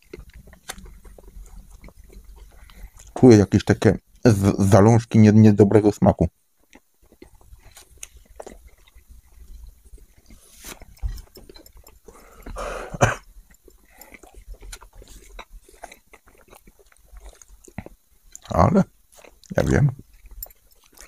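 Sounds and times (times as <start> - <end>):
people chewing: 0.0 - 4.8, 6.5 - 21.0.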